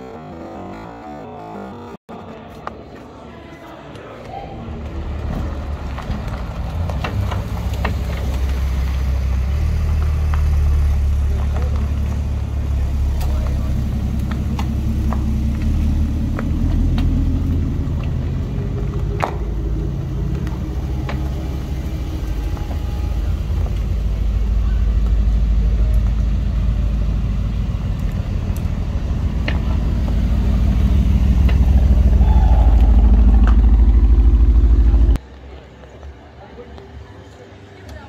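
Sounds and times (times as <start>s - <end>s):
car engine rumbling: 4.7s - 35.6s.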